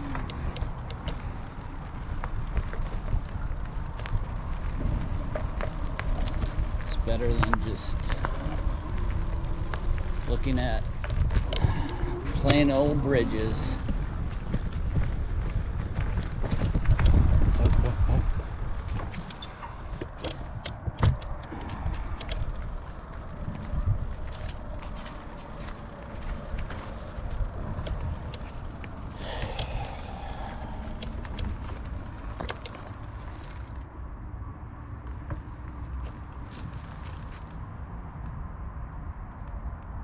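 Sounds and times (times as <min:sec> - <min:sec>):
bicycle tyre rumble: 0:00.0 - 0:38.1
bike rattles and clicks: 0:00.0 - 0:40.0.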